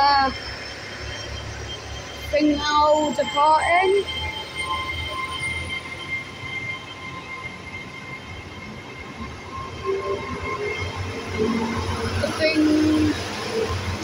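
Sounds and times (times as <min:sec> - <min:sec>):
diesel train rumbling past: 0:00.0 - 0:14.0
faint high whine: 0:00.0 - 0:14.0.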